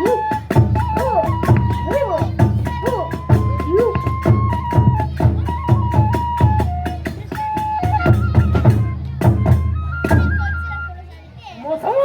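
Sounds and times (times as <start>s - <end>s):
quick steady drumbeats: 0.0s - 10.8s
bamboo flute melody: 0.0s - 12.0s.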